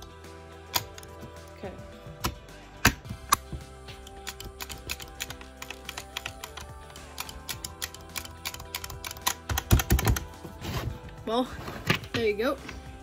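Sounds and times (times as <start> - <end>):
background music with held tones: 0.0 - 13.0.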